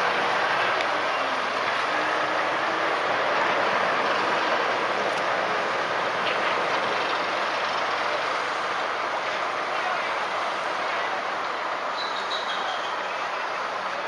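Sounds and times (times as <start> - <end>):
boat engine and water roar: 0.0 - 14.0.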